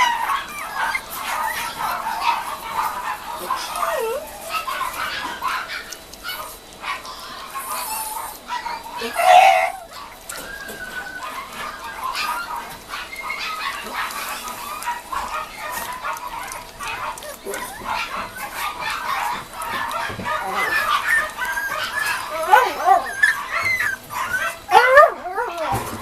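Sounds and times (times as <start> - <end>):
puppies whining and yipping: 0.0 - 26.0
puppy yelp: 0.0 - 26.0.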